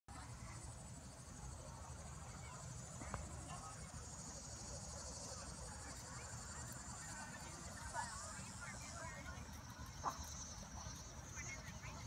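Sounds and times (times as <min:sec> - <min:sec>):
insects buzzing: 0:00.1 - 0:12.0.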